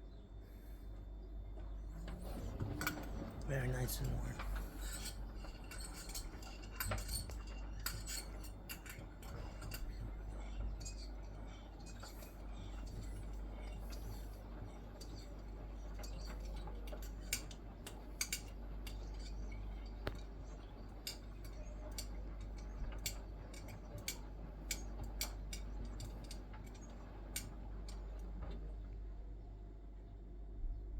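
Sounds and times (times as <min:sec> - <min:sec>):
washing machine humming: 0:00.0 - 0:30.9.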